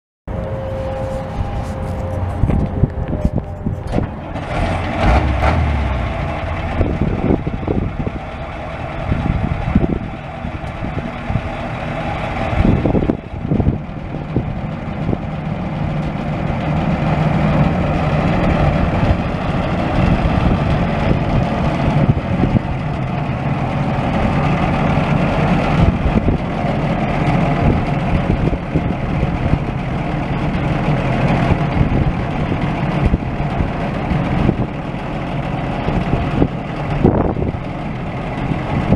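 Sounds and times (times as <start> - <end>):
truck engine running: 0.3 - 38.9.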